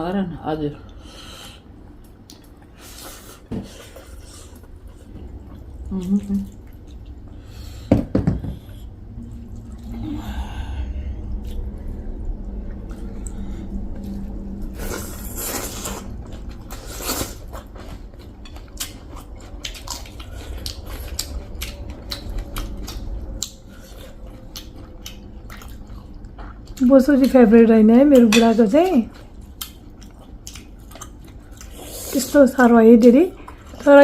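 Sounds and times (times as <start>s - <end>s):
person chewing: 1.6s - 7.9s, 8.5s - 26.8s, 29.1s - 32.2s.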